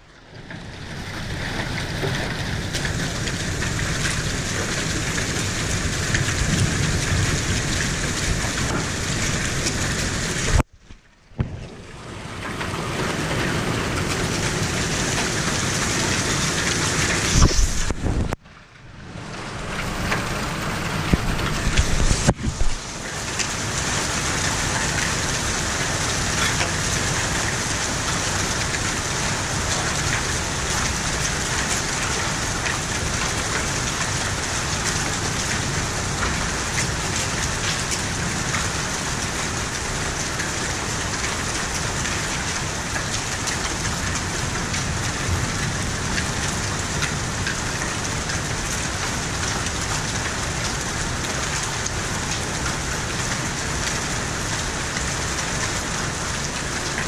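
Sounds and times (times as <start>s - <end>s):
heavy rain hiss: 0.4s - 10.7s, 11.4s - 18.4s, 19.0s - 57.0s.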